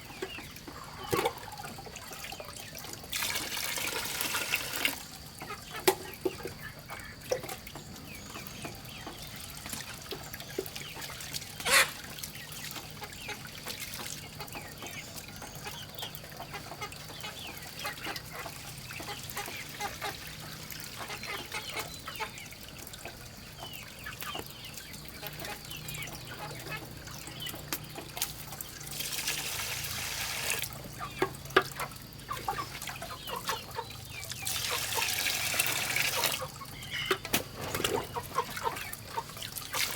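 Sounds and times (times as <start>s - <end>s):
chickens clucking: 0.0s - 3.1s, 3.8s - 28.8s, 29.4s - 39.9s.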